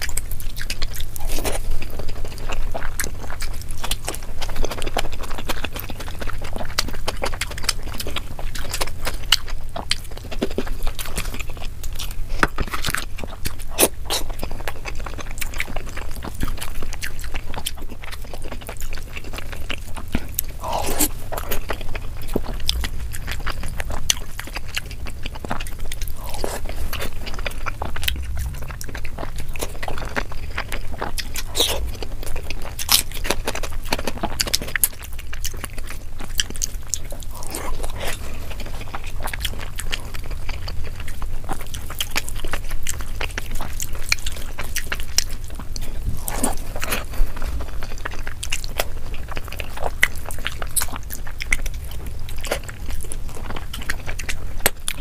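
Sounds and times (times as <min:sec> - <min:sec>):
chewing: 0:00.0 - 0:55.0.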